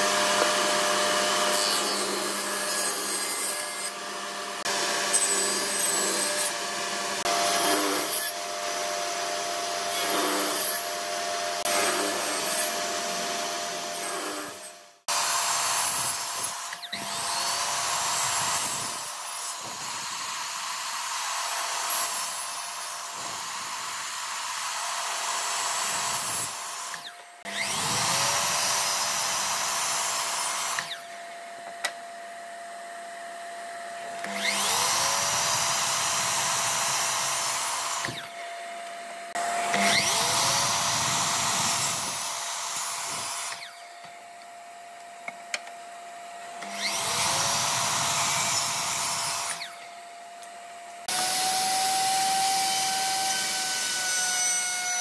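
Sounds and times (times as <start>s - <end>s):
miter saw cutting wood: 0.0s - 55.0s
router running: 0.0s - 55.0s.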